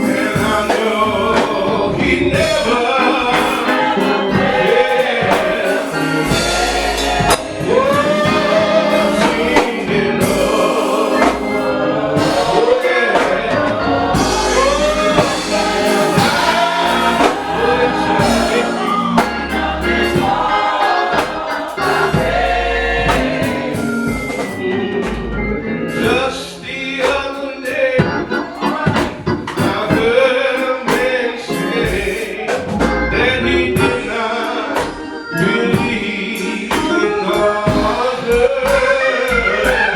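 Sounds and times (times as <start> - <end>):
band accompaniment: 0.0 - 39.9
drums: 0.0 - 39.9
gospel choir singing: 0.0 - 39.9.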